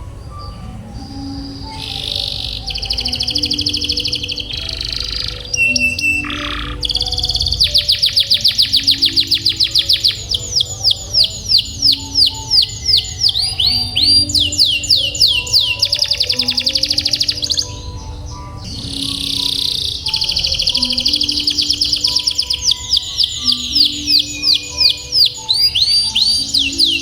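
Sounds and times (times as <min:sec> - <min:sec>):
canary singing: 0:00.0 - 0:27.0.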